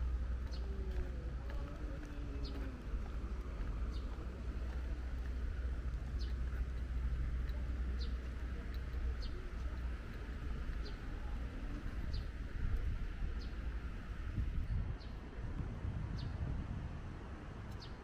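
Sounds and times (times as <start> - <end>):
birds chirping: 0.0 - 15.2
low rumble: 0.0 - 17.7.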